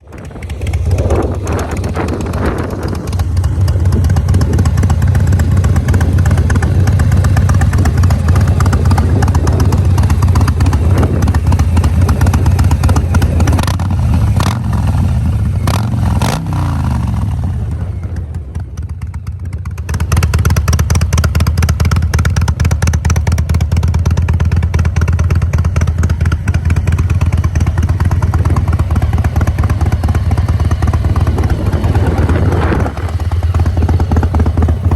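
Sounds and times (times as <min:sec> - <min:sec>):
motorcycle engine idling: 0:00.0 - 0:34.9
motorcycle throttle blips: 0:00.0 - 0:34.9.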